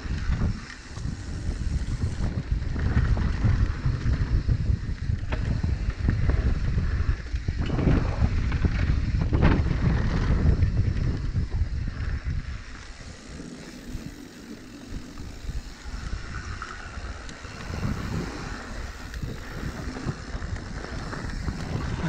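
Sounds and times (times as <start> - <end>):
bike tyres on dirt trail: 0.0 - 22.0
wind on microphone: 0.0 - 22.0.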